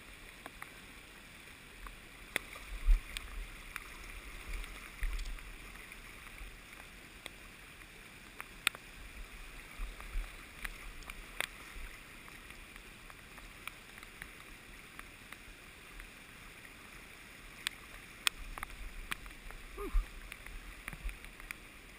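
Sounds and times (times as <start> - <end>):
river water rushing over rocks: 0.0 - 21.9.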